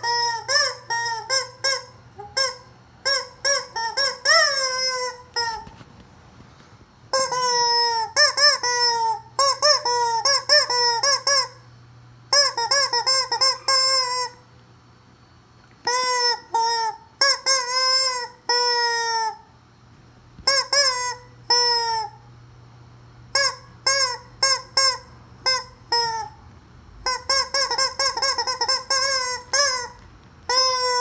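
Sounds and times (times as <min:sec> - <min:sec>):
rubber chicken toy squawking: 0:00.0 - 0:05.8, 0:07.1 - 0:11.7, 0:12.3 - 0:14.5, 0:15.8 - 0:19.5, 0:20.4 - 0:22.2, 0:23.3 - 0:26.4, 0:27.0 - 0:31.0.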